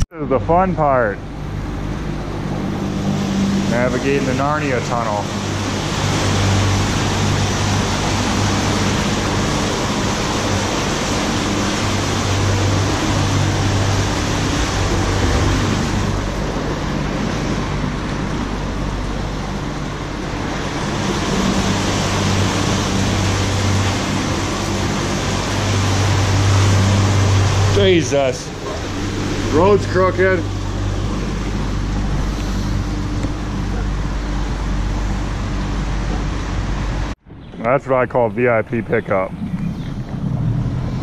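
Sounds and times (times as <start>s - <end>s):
boat motor humming: 0.0s - 41.0s
wind and water rushing: 0.5s - 41.0s.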